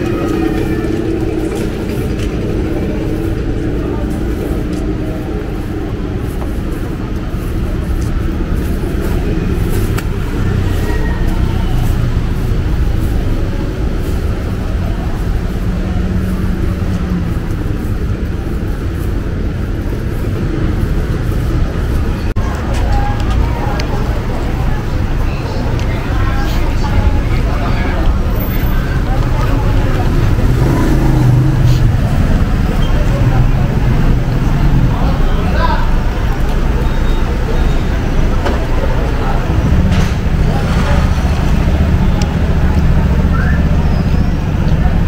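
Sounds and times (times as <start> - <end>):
faint voices: 0.0 - 45.0
road traffic rumble: 0.0 - 45.0.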